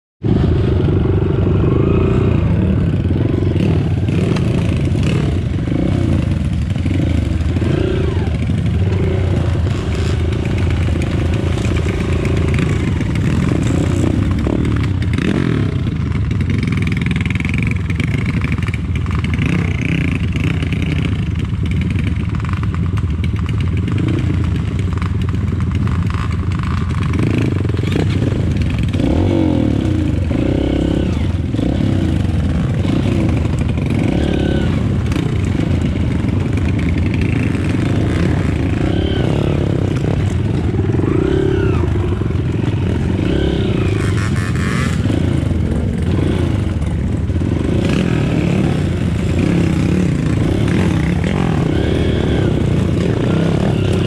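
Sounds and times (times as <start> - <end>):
motorcycle engine revving: 0.2 - 54.0.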